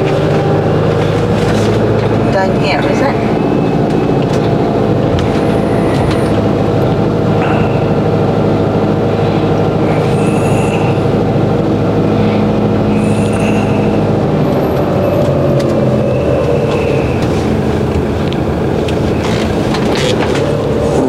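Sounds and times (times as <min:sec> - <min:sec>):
motorhome engine running: 0:00.0 - 0:21.0.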